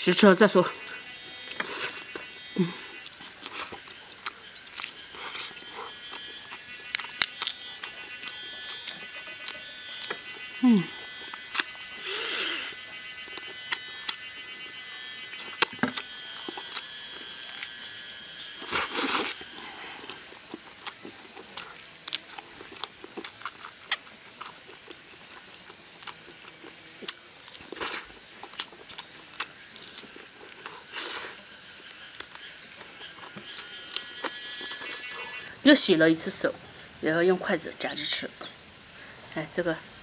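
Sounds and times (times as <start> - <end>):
wet chewing: 0.8 - 35.5.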